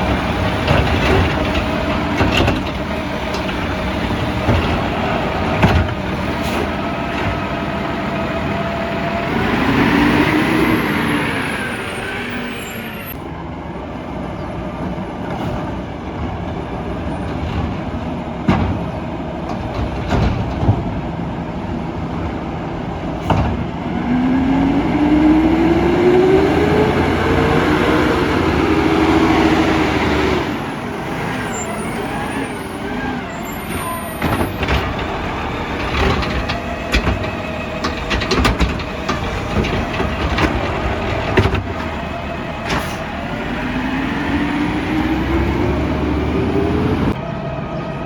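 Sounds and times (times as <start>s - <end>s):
garbage truck engine revving: 0.0s - 13.2s, 14.0s - 48.0s.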